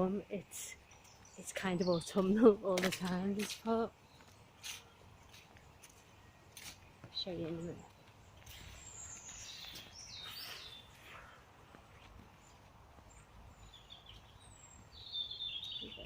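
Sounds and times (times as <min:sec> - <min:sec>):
birds twittering: 0:00.0 - 0:16.0
small birds calling: 0:00.0 - 0:16.0.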